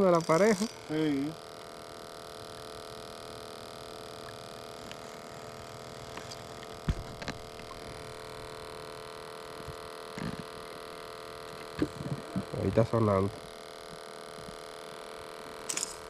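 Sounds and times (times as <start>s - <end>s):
steady electric hum: 0.0s - 16.0s.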